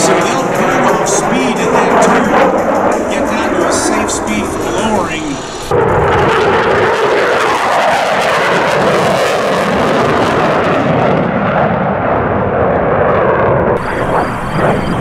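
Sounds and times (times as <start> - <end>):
jet engines in afterburner: 0.0 - 15.0.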